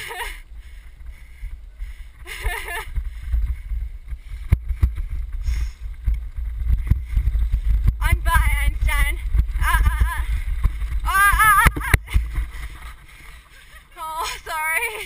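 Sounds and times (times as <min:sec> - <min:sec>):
wind buffeting microphone: 0:00.5 - 0:14.0.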